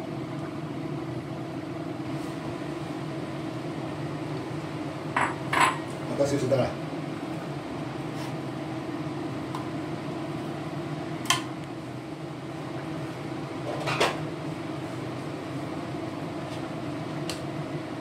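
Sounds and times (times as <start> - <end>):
steady electric hum: 0.0 - 18.0.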